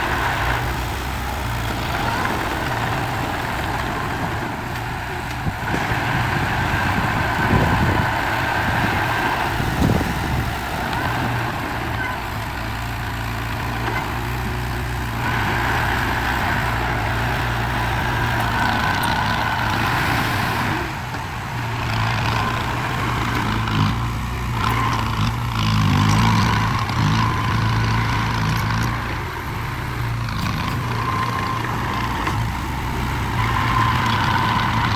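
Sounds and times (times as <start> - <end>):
heavy machine engine running: 0.0 - 34.9.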